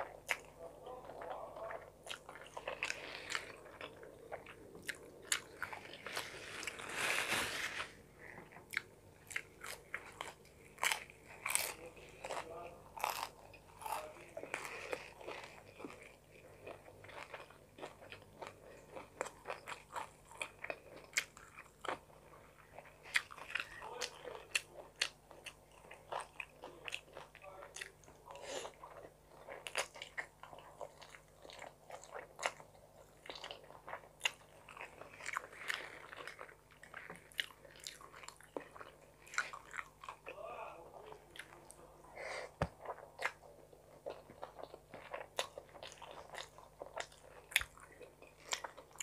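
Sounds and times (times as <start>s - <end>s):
chewing and wet mouth sounds: 0.0s - 7.4s, 8.2s - 49.0s.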